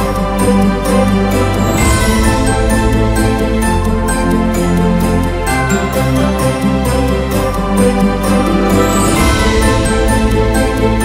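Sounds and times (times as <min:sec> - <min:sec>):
background music with ticking beat: 0:00.0 - 0:11.0.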